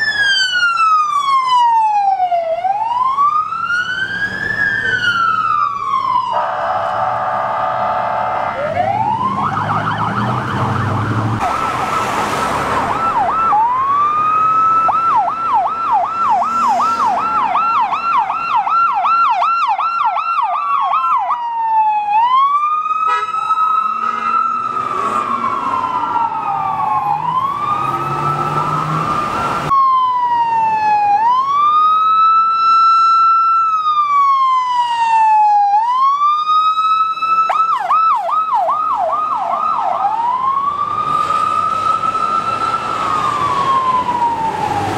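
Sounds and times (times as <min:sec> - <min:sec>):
siren wail: 0:00.0 - 0:44.9
siren yelp: 0:00.0 - 0:44.9
vehicle engines and traffic: 0:00.0 - 0:44.9.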